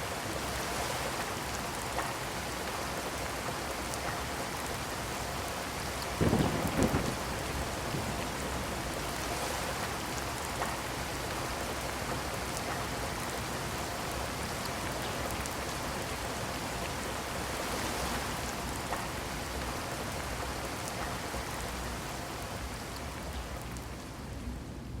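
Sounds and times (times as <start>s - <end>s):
heavy rain falling: 0.0s - 24.9s.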